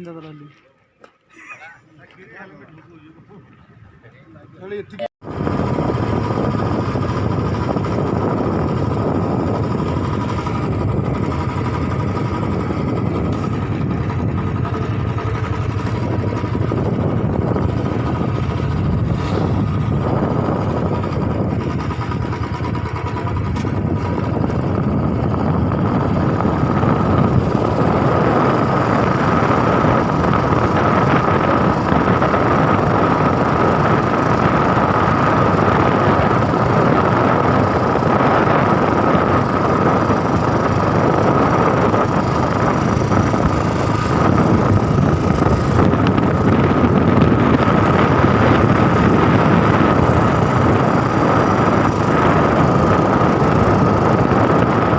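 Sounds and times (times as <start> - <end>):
engine running with whine: 4.9 - 54.9.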